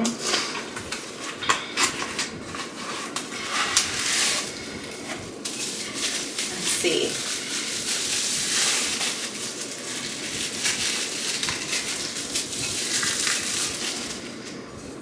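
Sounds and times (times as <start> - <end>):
packaging crinkling and rustling: 0.3 - 15.0.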